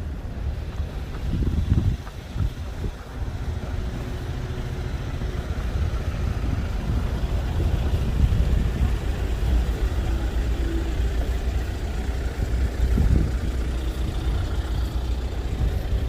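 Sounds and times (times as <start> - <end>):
faint engine hum: 0.0 - 16.0
traffic rumble: 0.0 - 16.0.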